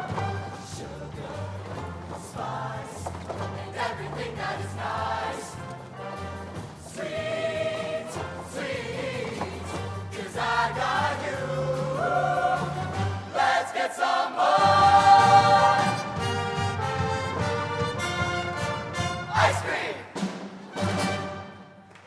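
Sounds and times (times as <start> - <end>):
choir singing held chords: 0.0 - 21.8.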